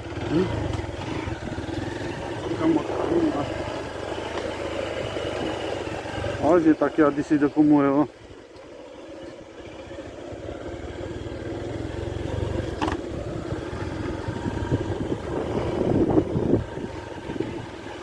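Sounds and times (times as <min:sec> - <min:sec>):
vehicle engine on dirt road: 0:00.0 - 0:18.0.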